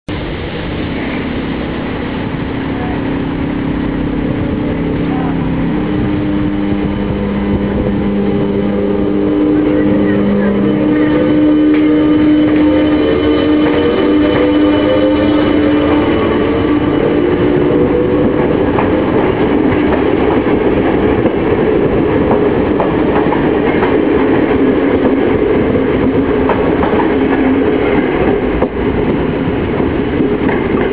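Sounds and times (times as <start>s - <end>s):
electric locomotive whine: 0.1s - 30.9s
train coaches rumbling past: 0.1s - 30.9s.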